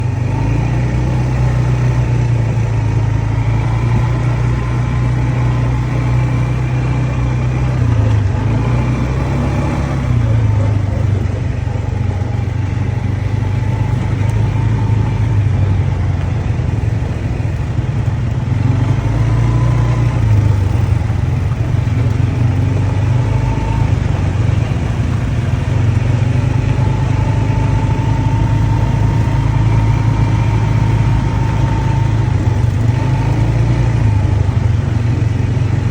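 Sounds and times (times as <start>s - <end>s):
quad bike engine running: 0.0s - 35.9s.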